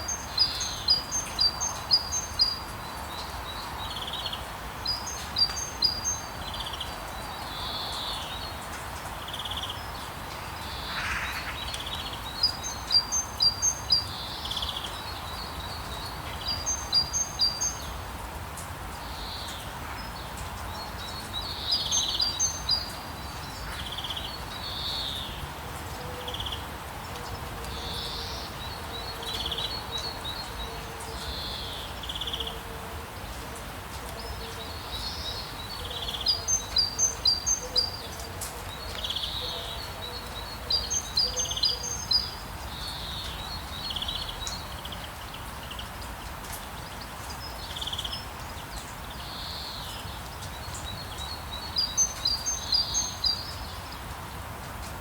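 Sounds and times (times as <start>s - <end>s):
songbirds calling: 0.0s - 18.2s, 18.9s - 55.0s
light rain hiss: 0.0s - 55.0s.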